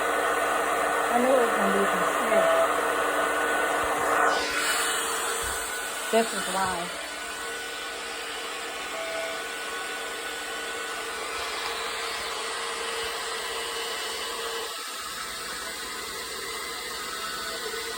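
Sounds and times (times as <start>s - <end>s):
air compressor whirring: 0.0s - 17.9s.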